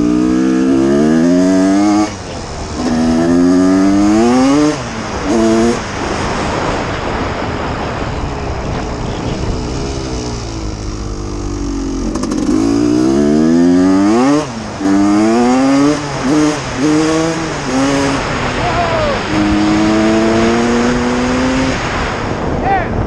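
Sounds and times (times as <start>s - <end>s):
two-stroke engine revving: 0.0s - 6.7s, 9.0s - 22.2s.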